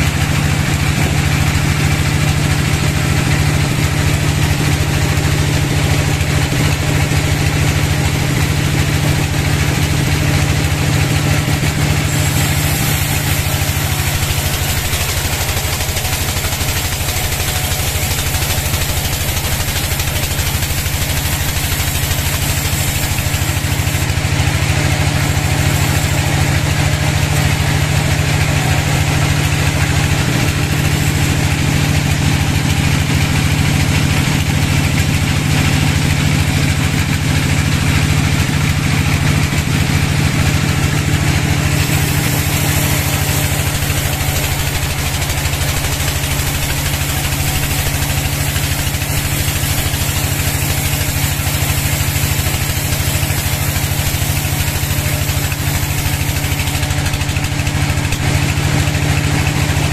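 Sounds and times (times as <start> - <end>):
saw blade hissing through log: 0.0 - 59.7
sawmill humming: 0.0 - 59.9.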